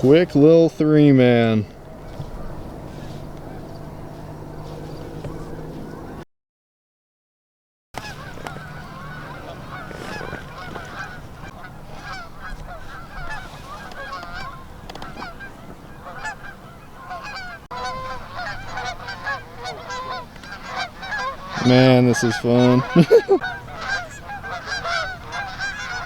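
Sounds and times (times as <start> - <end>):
geese honking: 0.0 - 6.2, 8.0 - 26.0.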